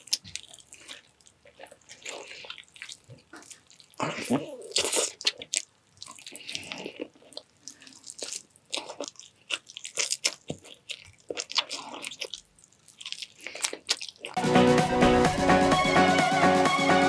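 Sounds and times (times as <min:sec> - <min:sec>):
crunchy bites: 0:00.0 - 0:14.4
wet chewing: 0:00.0 - 0:14.4.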